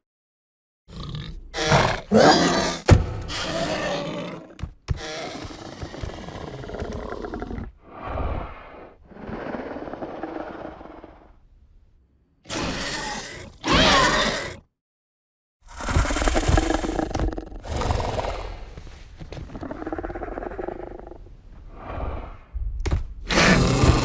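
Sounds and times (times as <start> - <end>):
rough creature calls: 1.1 - 11.4, 12.5 - 14.6, 15.7 - 22.5, 23.3 - 24.0.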